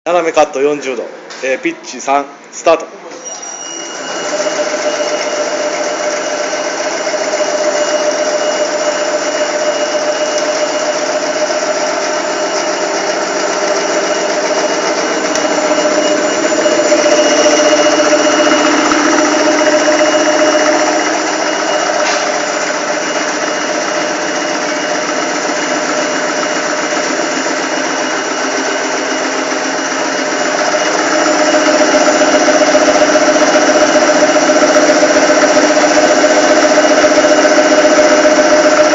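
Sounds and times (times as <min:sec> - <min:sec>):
sausage-slicing machine whine: 0:03.1 - 0:38.9.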